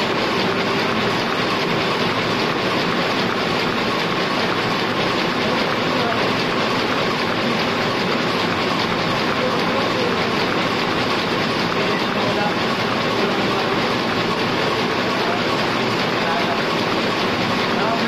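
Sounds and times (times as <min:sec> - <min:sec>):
printing press running: 0:00.0 - 0:18.0.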